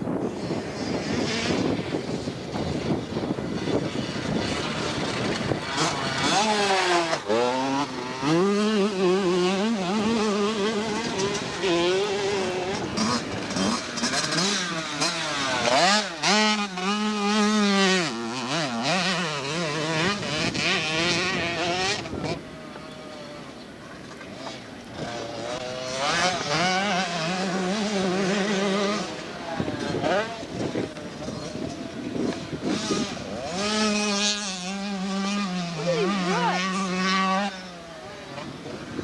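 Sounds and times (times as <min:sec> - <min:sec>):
motocross bike engines revving: 0:00.0 - 0:39.0.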